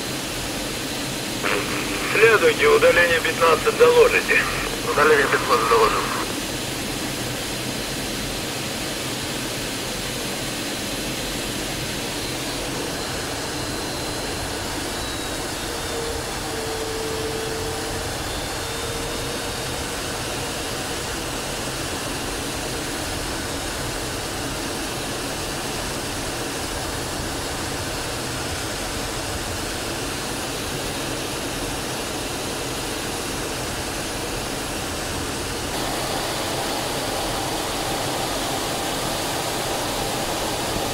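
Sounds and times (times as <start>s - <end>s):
jet engine and airflow noise: 0.0s - 40.9s.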